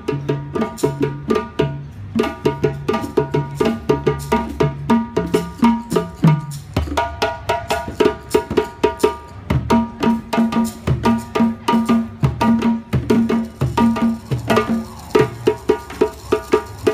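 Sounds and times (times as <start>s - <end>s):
hand drums playing: 0.0s - 16.9s.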